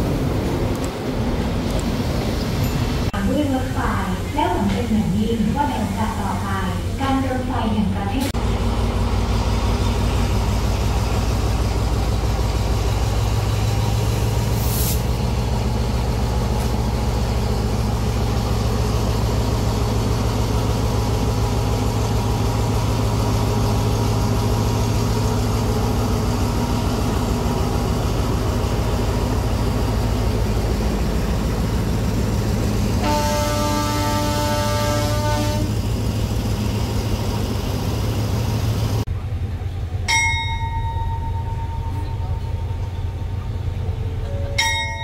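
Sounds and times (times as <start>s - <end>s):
diesel train rumbling: 0.0s - 45.0s.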